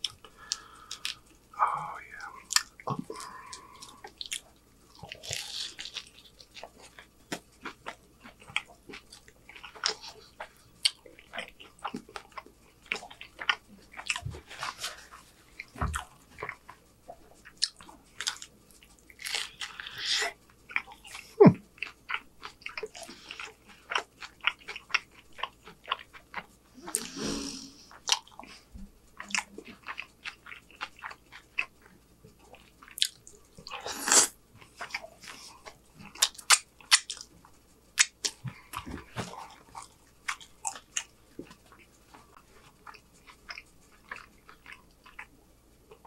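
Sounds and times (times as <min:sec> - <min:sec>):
chewing with wet mouth clicks: 0:02.4 - 0:14.7, 0:15.6 - 0:19.8, 0:20.7 - 0:27.1, 0:29.2 - 0:33.8, 0:34.6 - 0:37.3, 0:38.0 - 0:45.3.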